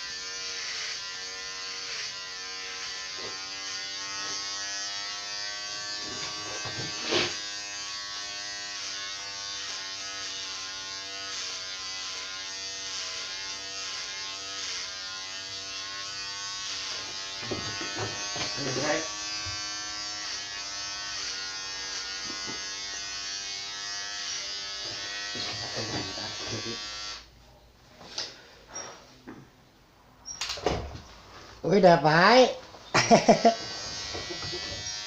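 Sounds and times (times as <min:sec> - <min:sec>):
electric clippers buzzing: 0:00.0 - 0:27.3, 0:33.0 - 0:35.0.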